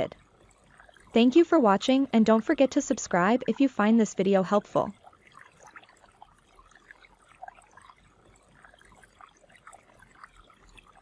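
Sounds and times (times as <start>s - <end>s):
water drips: 0.0s - 11.0s
water trickling and splashing: 0.0s - 11.0s.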